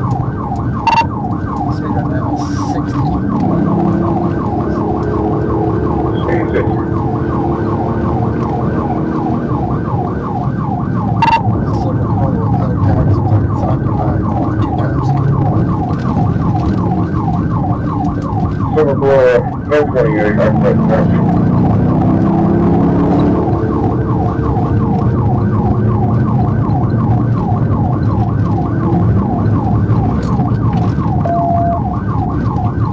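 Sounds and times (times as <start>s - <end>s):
car engine and road noise: 0.0s - 32.9s
police siren yelping: 0.0s - 32.9s.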